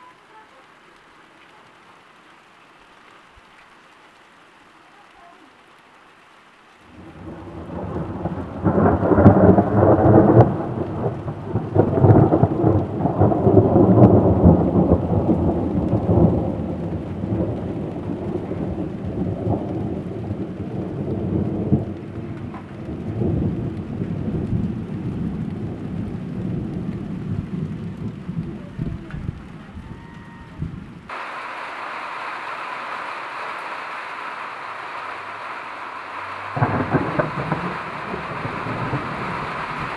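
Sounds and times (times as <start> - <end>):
thunder rumbling and cracking: 6.9 - 39.9.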